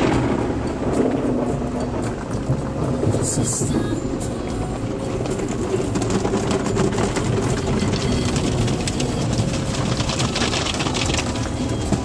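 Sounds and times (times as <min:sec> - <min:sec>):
low rumble: 0:00.0 - 0:12.0
water spray and brushes on car: 0:01.0 - 0:12.0.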